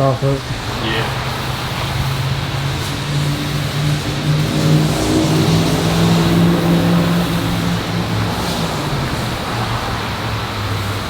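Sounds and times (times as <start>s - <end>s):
high-pressure water spray hiss: 0.0s - 11.0s
vehicle engine humming: 0.0s - 11.0s.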